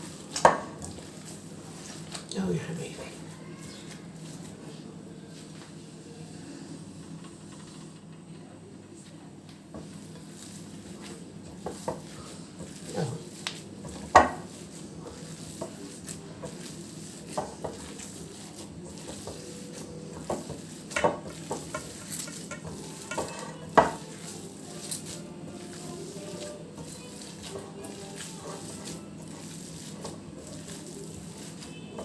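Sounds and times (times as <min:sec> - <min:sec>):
hands mixing minced meat: 0:00.0 - 0:06.0, 0:09.8 - 0:32.0.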